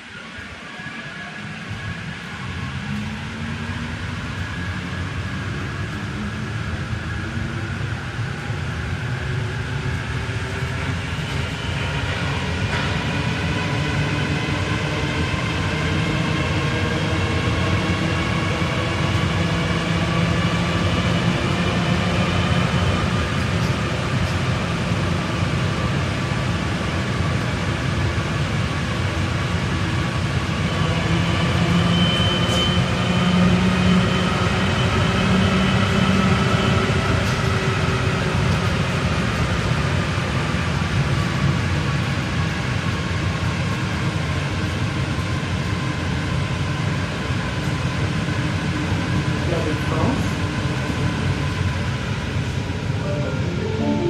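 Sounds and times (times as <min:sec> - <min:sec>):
train rolling rumble: 0:00.0 - 0:53.7.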